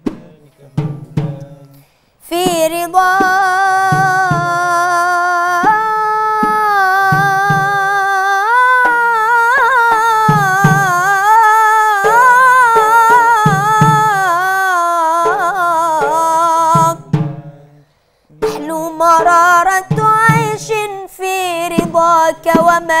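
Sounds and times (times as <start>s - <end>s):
frame drum strokes: 0.0s - 1.7s, 2.3s - 23.0s
boy singing devotional chant: 0.0s - 23.0s.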